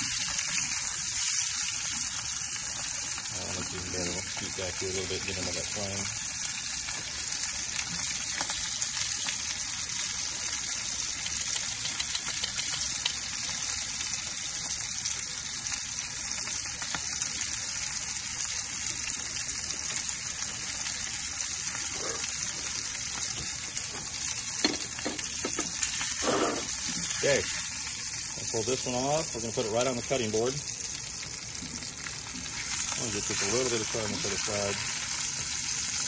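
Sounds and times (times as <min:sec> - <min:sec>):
fish searing in a skillet: 0:00.0 - 0:36.0.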